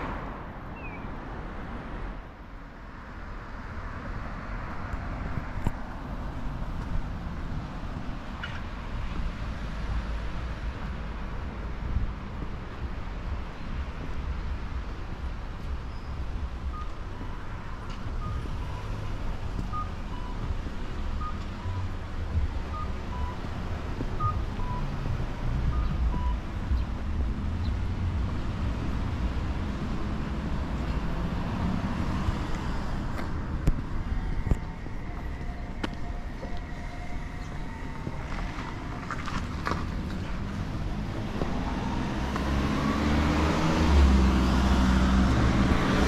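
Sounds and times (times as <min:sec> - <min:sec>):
low vehicle rumble: 0:00.0 - 0:46.0.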